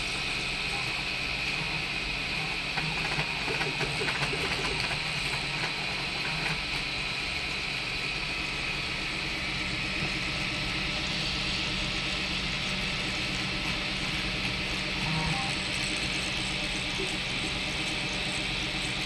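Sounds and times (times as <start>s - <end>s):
stepper motor tones and ticks: 0.0s - 19.0s
three-d printer whirring: 0.0s - 19.0s.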